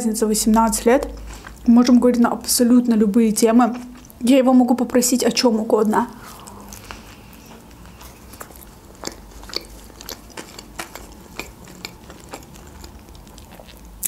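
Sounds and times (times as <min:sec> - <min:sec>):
person chewing wet clicks: 0:00.5 - 0:04.3, 0:06.3 - 0:14.0.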